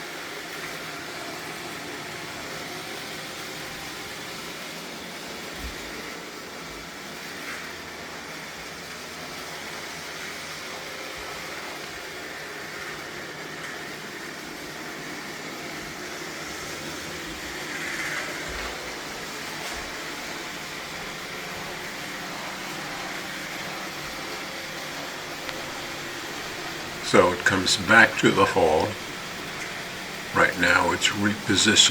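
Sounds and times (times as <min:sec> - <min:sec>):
robot vacuum whirring: 0:00.1 - 0:31.9.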